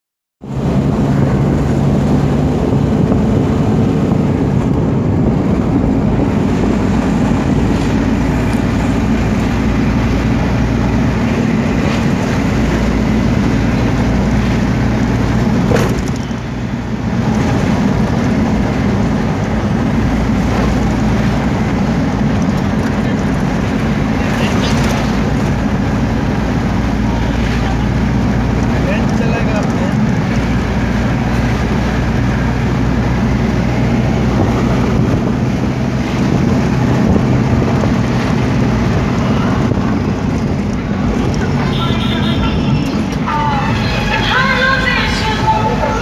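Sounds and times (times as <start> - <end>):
car engine and road noise: 0.4 - 46.0.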